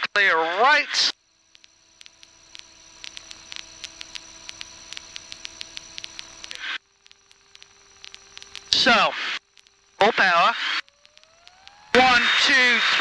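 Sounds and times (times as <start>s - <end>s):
faint steady hum: 0.0s - 13.0s
static hiss: 0.0s - 13.0s
crackling clicks: 0.9s - 13.0s.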